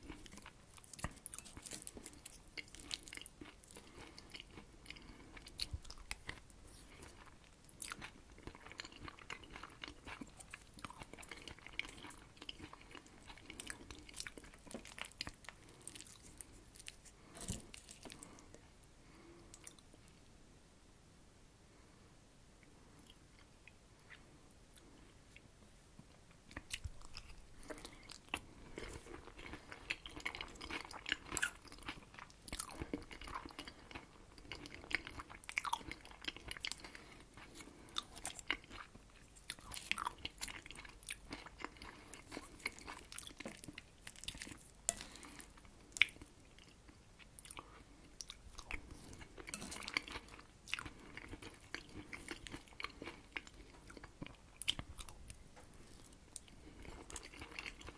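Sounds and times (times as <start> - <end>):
close-miked wet chewing: 0.0 - 18.6, 26.5 - 57.9.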